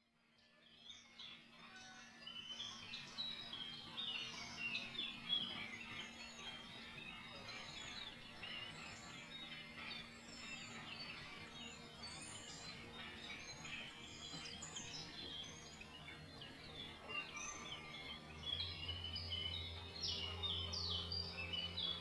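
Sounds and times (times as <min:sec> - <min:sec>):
songbirds chirping and trilling: 0:00.0 - 0:22.0
low steady hum: 0:02.5 - 0:22.0.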